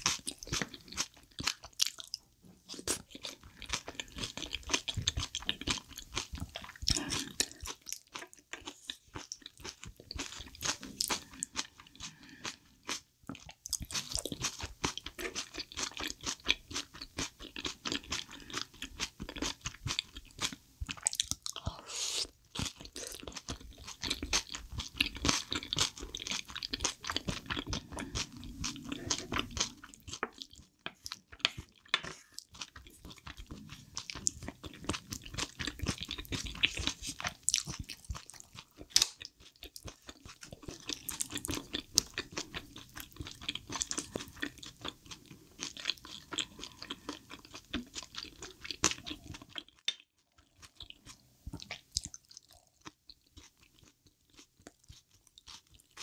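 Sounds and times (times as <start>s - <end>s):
wet chewing sounds: 0.0s - 56.0s.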